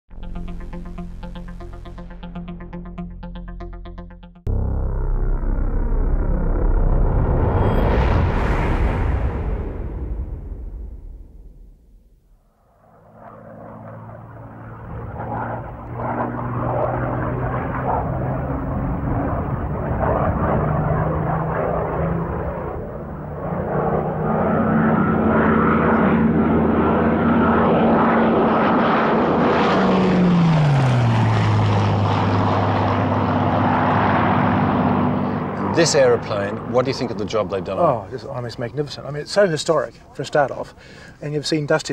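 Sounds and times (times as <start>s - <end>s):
propeller plane engine in flight: 0.1s - 41.9s.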